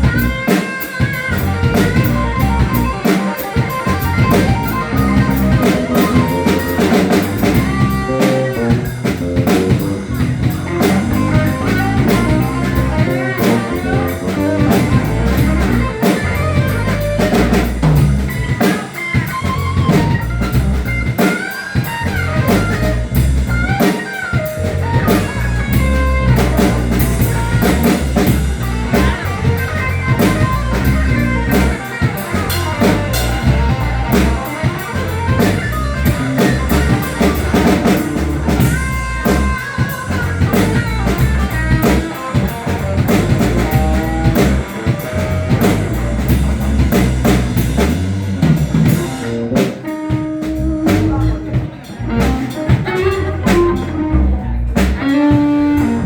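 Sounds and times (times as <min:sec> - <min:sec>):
drum kit beat: 0:00.0 - 0:56.0
guitar lines: 0:00.0 - 0:56.0
live band playing funk-blues: 0:00.0 - 0:56.0.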